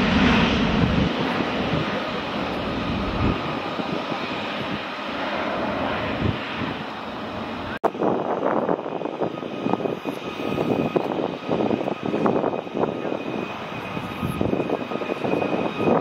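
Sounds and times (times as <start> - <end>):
jet engine whine: 0.0 - 16.0.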